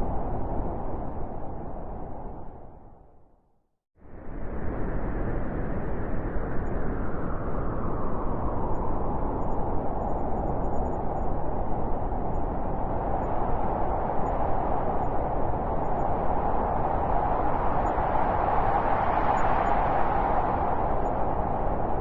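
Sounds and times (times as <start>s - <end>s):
howling wind: 0.0s - 3.4s, 4.0s - 22.0s.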